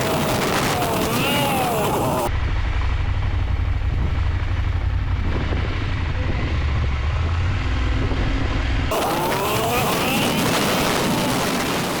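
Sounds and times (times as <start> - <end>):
wind noise on microphone: 0.0 - 2.3, 3.8 - 12.0
motorcycle engine rumbling: 0.0 - 12.0.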